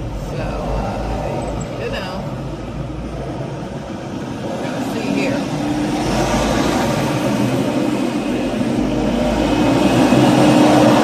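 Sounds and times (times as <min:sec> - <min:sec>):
heavy traffic and road noise: 0:00.0 - 0:11.0
truck diesel engine droning: 0:00.0 - 0:11.0.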